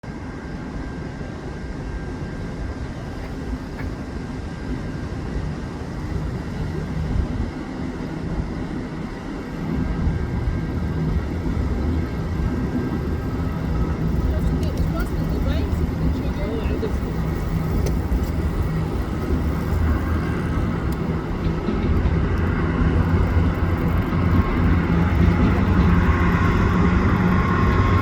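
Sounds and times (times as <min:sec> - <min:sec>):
vehicle engine rumbling: 0:02.0 - 0:28.0.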